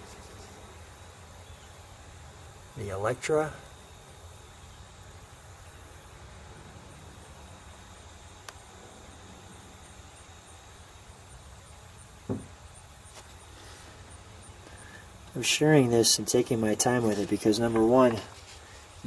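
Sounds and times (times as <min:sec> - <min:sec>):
faint hum and hiss: 0:00.0 - 0:19.0.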